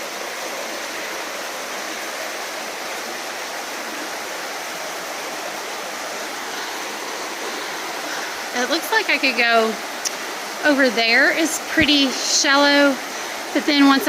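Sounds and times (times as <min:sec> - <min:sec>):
stream of running water: 0:00.0 - 0:14.0.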